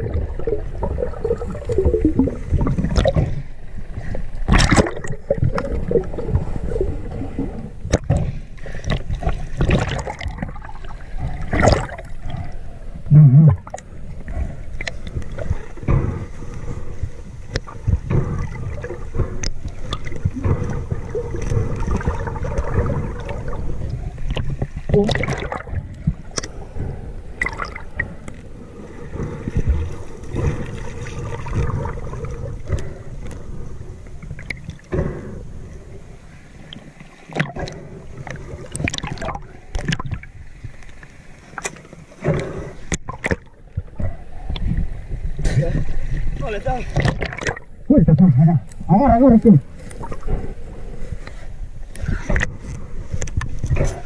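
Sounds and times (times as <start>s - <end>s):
water churning underwater: 0.0s - 54.0s.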